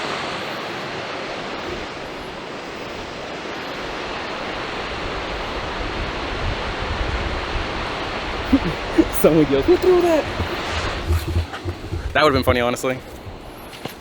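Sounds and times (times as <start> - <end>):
rushing waterfall: 0.0 - 13.6
wind rumble on microphone: 1.4 - 14.0.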